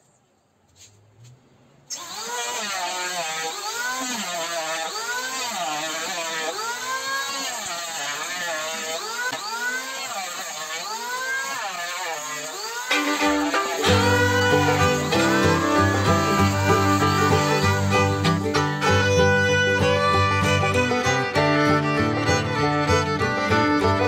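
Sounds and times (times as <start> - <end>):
electric planer shaving wood: 1.9 - 24.0.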